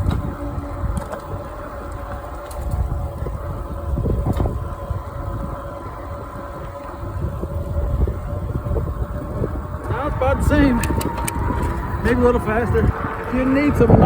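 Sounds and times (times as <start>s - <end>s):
electric motor whine: 0.0s - 14.0s
wind rumble on microphone: 0.0s - 14.0s.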